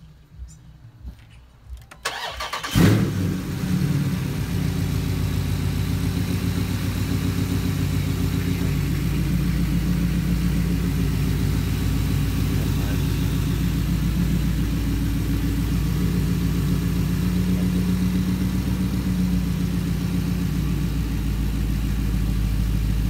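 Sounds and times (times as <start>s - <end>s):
car engine starting and idling: 0.0s - 23.0s.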